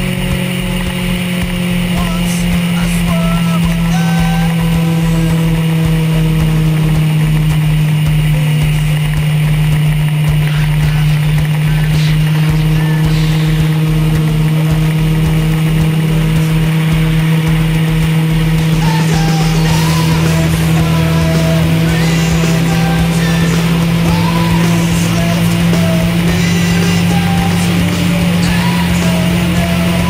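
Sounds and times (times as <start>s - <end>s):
motorcycle engine cruising: 0.0s - 30.0s.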